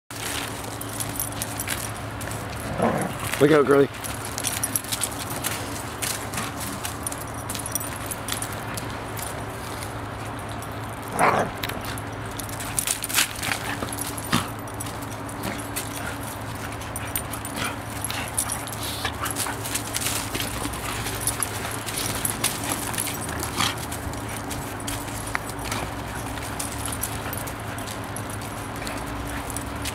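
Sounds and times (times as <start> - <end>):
dogs scuffling on gravel: 0.1 - 29.9.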